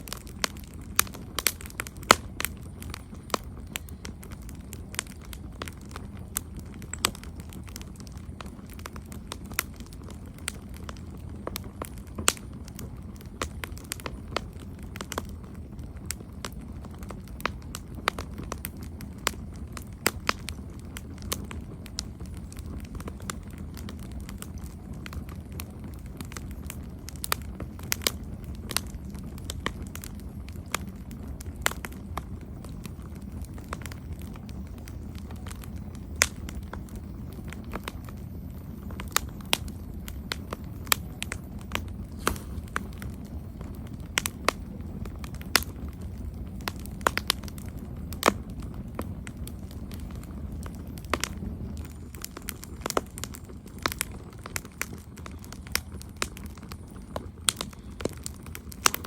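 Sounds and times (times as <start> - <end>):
campfire crackling: 0.0 - 59.0
low steady rumble: 0.0 - 59.0.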